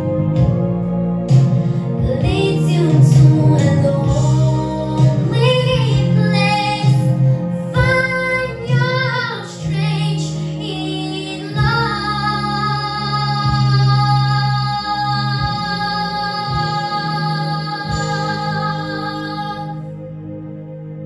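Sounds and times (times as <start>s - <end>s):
instrumental backing music: 0.0s - 21.0s
girl singing a ballad: 1.7s - 19.9s.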